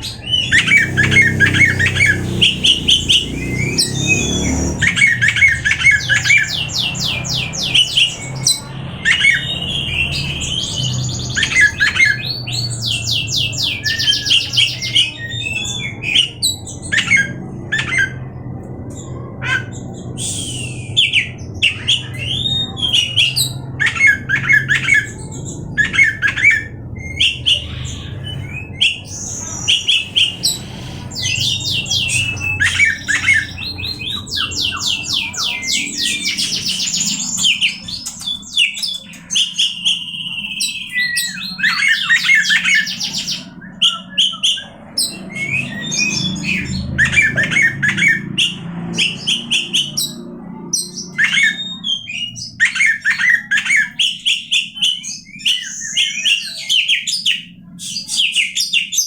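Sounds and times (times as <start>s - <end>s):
bird singing trills and whistles: 0.0s - 59.0s.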